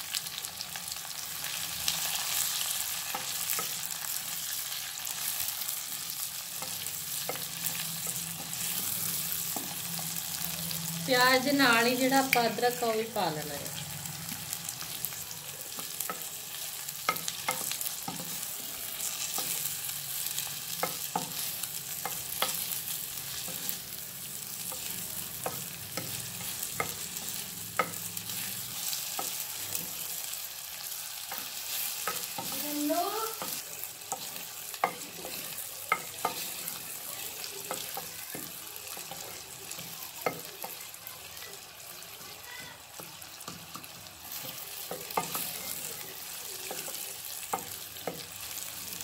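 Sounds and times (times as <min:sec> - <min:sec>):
onions sizzling in a pot: 0:00.0 - 0:49.0.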